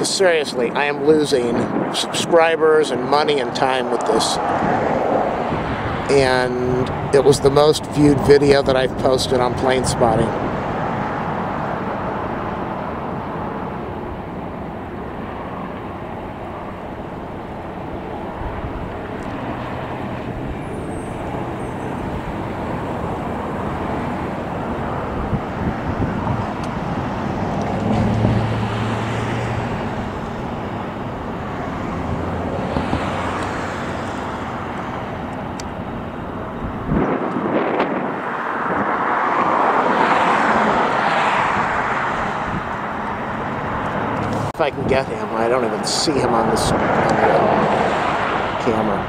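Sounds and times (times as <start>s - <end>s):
road traffic passing: 0.0s - 49.0s.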